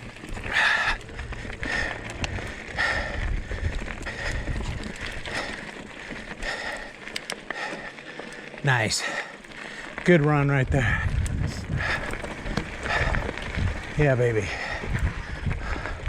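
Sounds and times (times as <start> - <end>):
bike tyres rattling over rock: 0.0 - 16.0.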